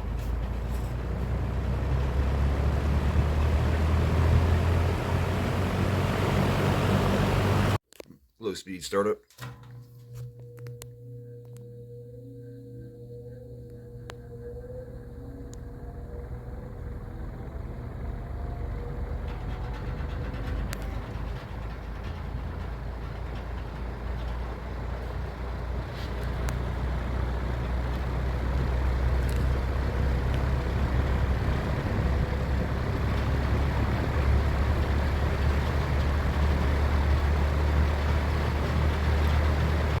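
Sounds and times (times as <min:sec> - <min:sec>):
box fan running: 0:00.0 - 0:07.8, 0:09.5 - 0:40.0.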